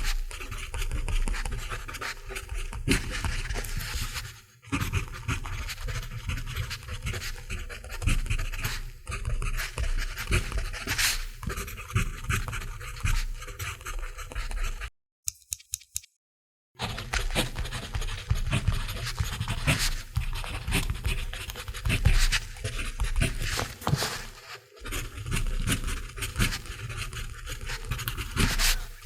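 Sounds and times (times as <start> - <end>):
pencil scratching on paper: 0.0 - 14.9, 16.8 - 29.0.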